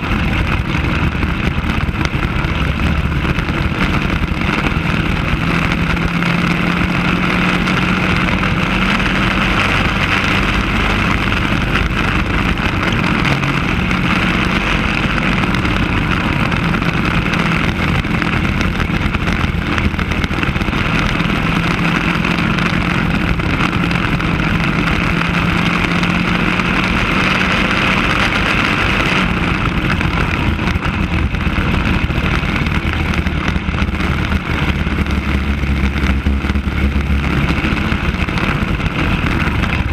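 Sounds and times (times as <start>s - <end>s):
kart engine at high revs: 0.0s - 39.9s
wind rushing on microphone: 0.0s - 39.9s.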